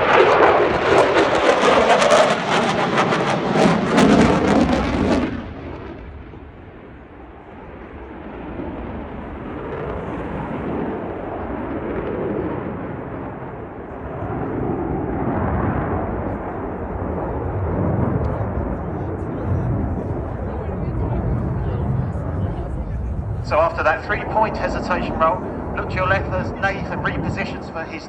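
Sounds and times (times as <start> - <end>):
distant jet rumble: 0.0 - 28.0
loud jet noise: 0.0 - 28.0.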